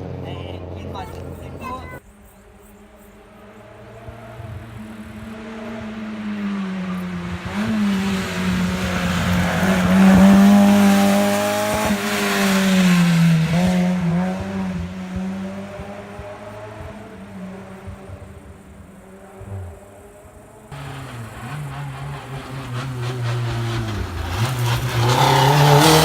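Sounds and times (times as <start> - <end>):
car engine revving past: 0.0 - 26.0.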